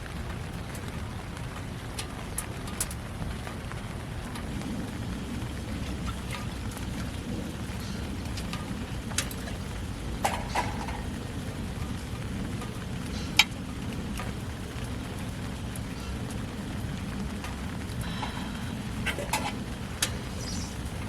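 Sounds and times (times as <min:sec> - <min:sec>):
steady rain falling: 0:00.0 - 0:21.0
sharp drips: 0:04.1 - 0:21.0.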